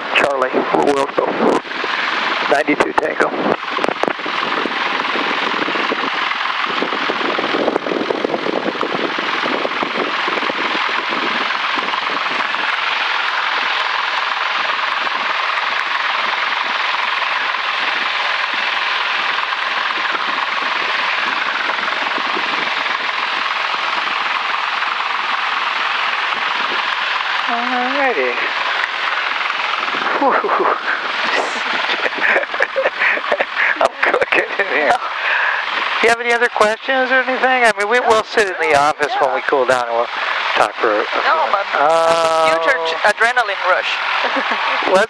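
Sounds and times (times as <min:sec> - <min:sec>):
airplane engine and propeller drone: 0:00.0 - 0:45.0
scattered crackles: 0:00.2 - 0:45.0.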